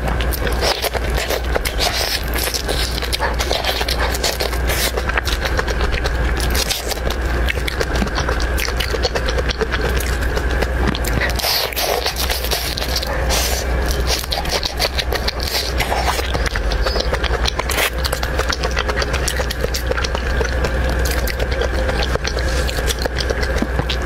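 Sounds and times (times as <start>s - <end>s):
low hum: 0.0s - 24.0s
shells cracking and chewing: 0.0s - 24.0s.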